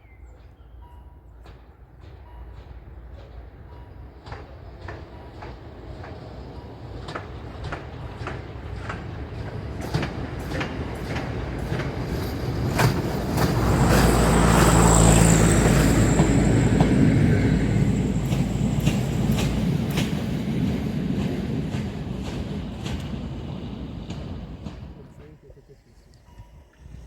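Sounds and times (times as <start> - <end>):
freight train passing: 0.0 - 27.0
wheels clacking over rail joints: 1.4 - 25.4
locomotive hum and high whine: 4.9 - 27.0.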